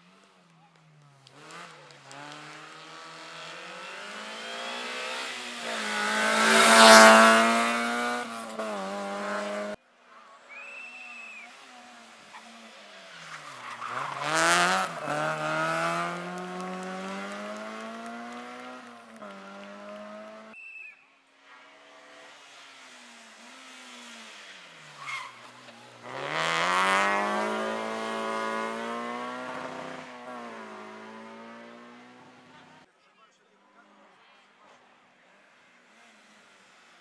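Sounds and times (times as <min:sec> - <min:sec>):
rally car engines accelerating: 0:00.0 - 0:09.8, 0:10.4 - 0:20.6, 0:21.4 - 0:32.9, 0:34.0 - 0:37.0.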